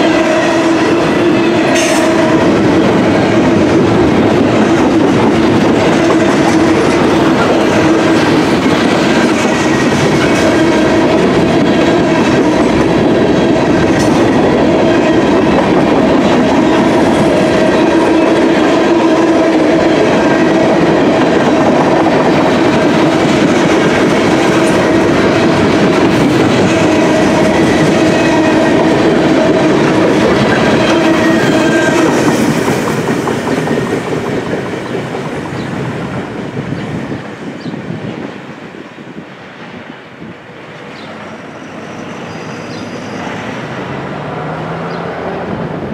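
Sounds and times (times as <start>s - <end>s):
freight train rolling past: 0.0s - 45.9s
steel wheels rumbling on rail: 0.0s - 45.9s.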